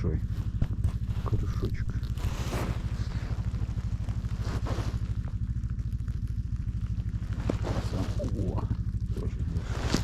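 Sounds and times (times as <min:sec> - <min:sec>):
engine idling: 0:00.0 - 0:10.0
faint rustles and clicks: 0:00.0 - 0:10.0.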